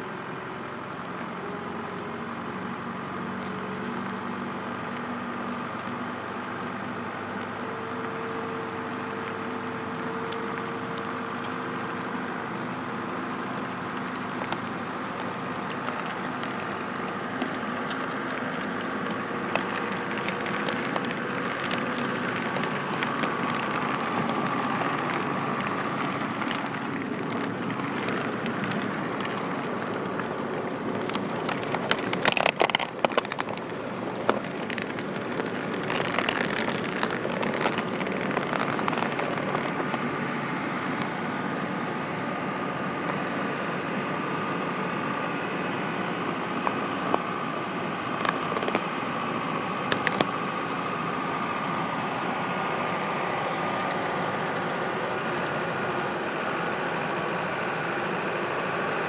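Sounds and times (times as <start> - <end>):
construction machine engine running: 0.0 - 59.0.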